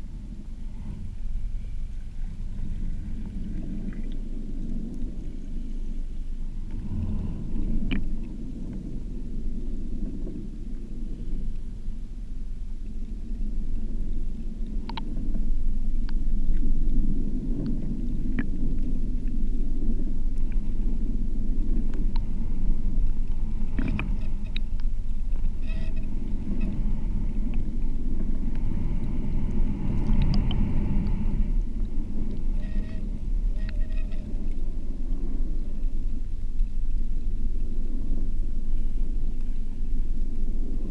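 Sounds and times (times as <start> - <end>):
underwater rumble of surging water: 0.0 - 40.9.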